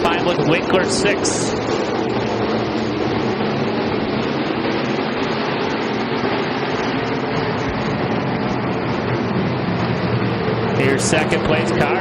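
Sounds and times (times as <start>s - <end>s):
racing car engines droning: 0.0s - 12.0s.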